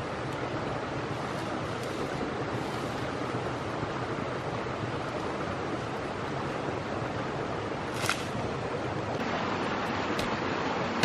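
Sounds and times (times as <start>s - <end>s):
river and waterfall rushing: 0.0s - 11.0s.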